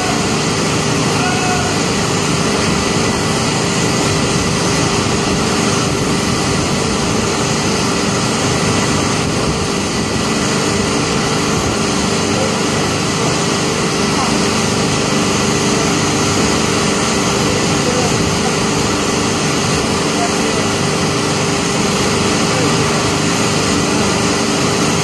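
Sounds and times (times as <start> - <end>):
loud machinery drone: 0.0 - 25.0.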